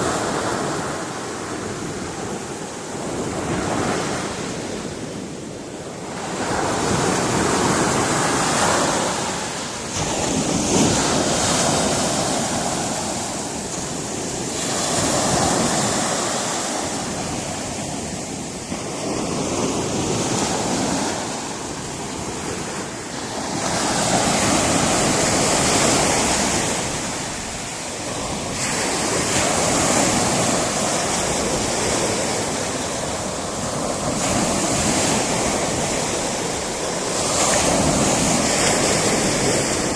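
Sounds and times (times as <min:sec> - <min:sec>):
waves breaking on rocky shore: 0:00.0 - 0:39.9.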